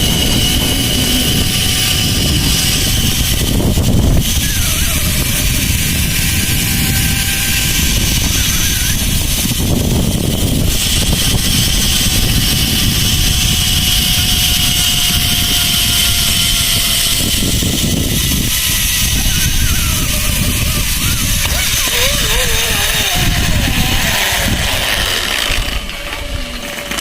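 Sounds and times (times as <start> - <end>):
pulleys whining on cable: 0.0 - 27.0
wind buffeting microphone: 0.0 - 27.0.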